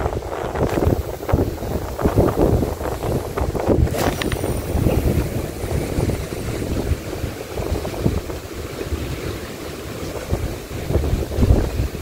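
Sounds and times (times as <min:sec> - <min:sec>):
sea washing: 0:00.0 - 0:12.0
wind buffeting microphone: 0:00.0 - 0:12.0.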